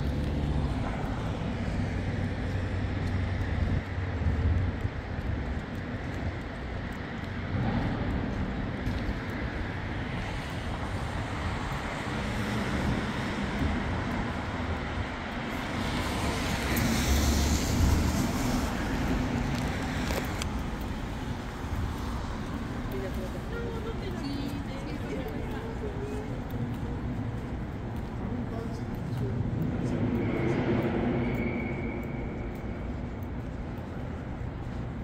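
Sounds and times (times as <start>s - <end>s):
cars driving by: 0.0s - 35.0s.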